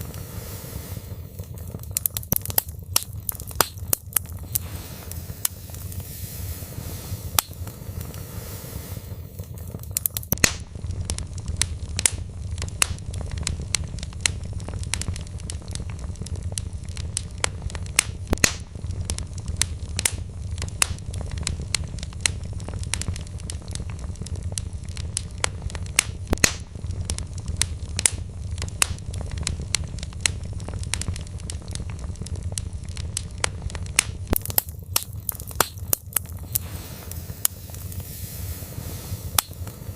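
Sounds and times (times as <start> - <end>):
log fire crackling: 0.0 - 39.9
low rumble of flames: 0.0 - 39.9.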